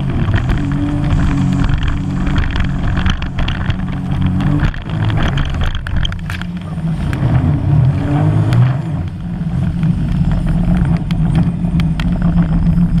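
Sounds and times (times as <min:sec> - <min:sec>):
personal watercraft engine running: 0:00.0 - 0:13.0.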